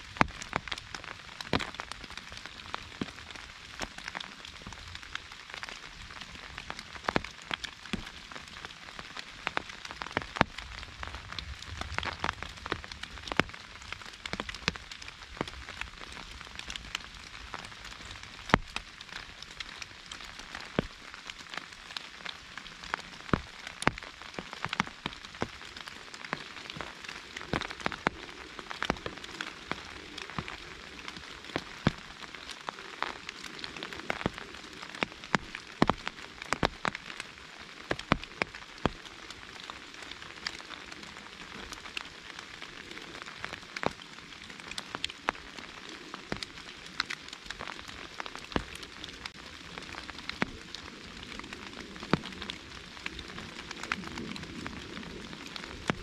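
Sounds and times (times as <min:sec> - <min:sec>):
rain pattering on umbrella: 0:00.0 - 0:56.0.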